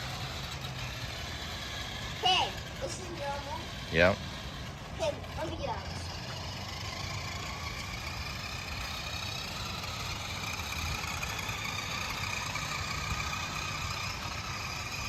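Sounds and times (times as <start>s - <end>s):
toy car motor whining: 0.0s - 15.0s.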